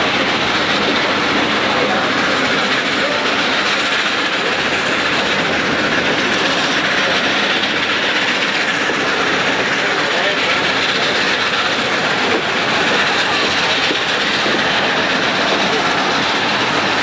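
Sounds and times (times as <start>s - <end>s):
steam train running on rails: 0.0s - 17.0s.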